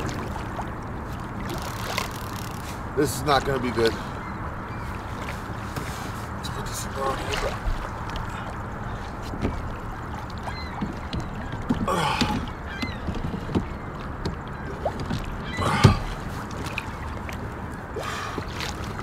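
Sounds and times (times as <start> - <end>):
short water rush: 0.0 - 13.4, 14.6 - 19.0
water lapping against hull: 0.0 - 19.0.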